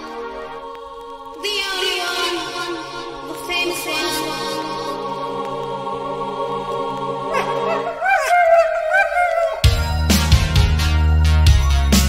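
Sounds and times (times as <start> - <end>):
synthwave music: 0.0 - 12.0.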